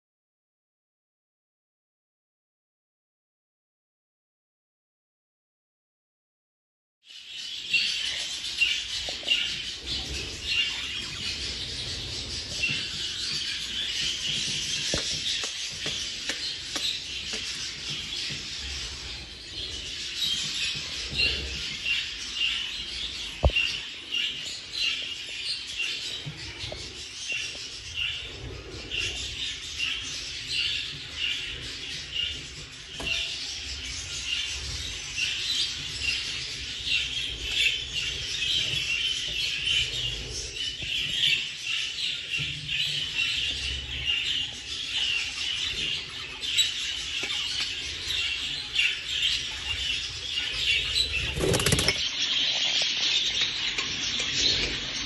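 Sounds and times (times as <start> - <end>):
budgerigars chattering and chirping: 7.4 - 55.0.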